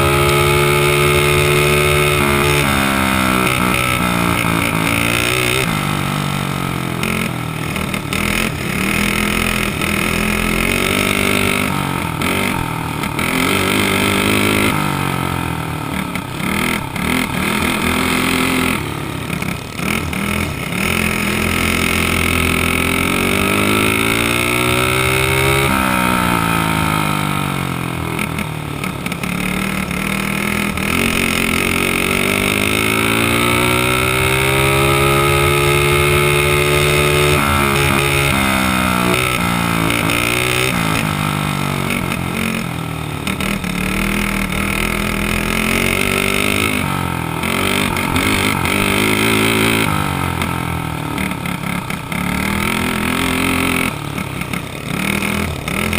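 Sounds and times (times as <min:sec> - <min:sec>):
kart engine revving: 0:00.0 - 0:55.9.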